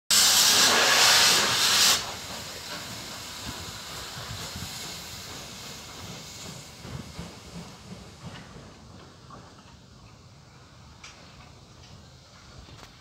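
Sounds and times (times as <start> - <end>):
locomotive venting steam: 0.1 - 13.0.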